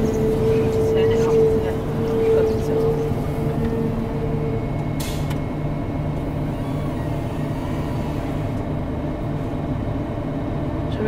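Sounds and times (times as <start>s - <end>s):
combine harvester engine hum: 0.0s - 11.0s.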